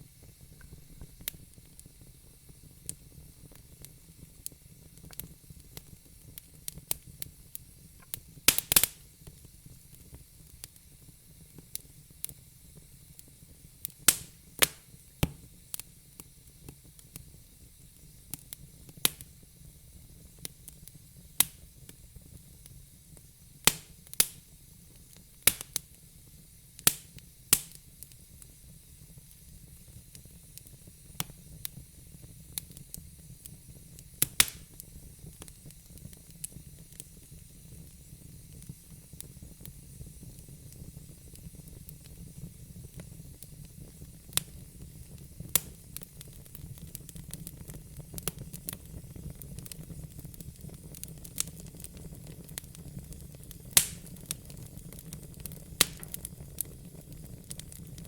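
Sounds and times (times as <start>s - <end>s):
faint steady hiss: 0.0s - 58.0s
fire crackling and popping: 0.0s - 58.0s.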